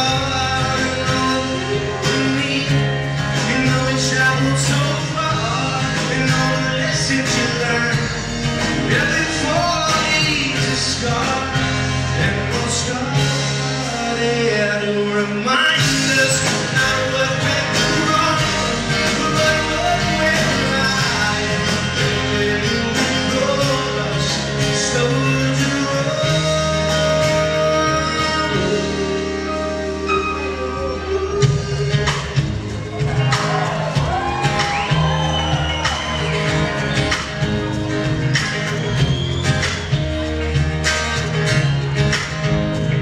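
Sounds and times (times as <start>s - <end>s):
drum kit: 0.0s - 43.0s
electric bass: 0.0s - 43.0s
electric guitar: 0.0s - 43.0s.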